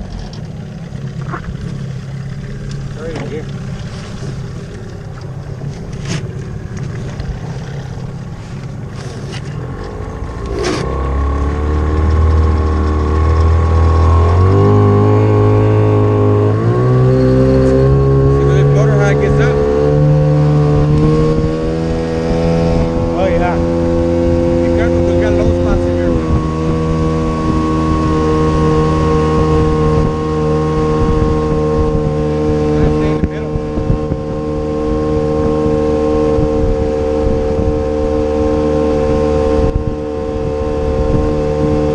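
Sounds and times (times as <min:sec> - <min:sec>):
motorboat engine running: 0:00.0 - 0:41.9
wind and water rushing: 0:00.0 - 0:41.9.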